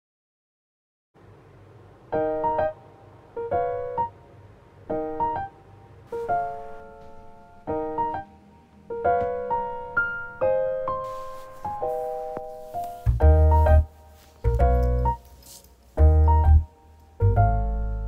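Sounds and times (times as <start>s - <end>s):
bright keyboard chords: 2.1s - 18.0s.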